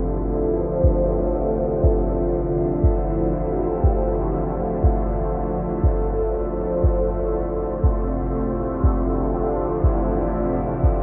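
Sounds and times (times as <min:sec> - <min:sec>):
ambient music: 0:00.0 - 0:11.0
deep low beat: 0:00.0 - 0:11.0.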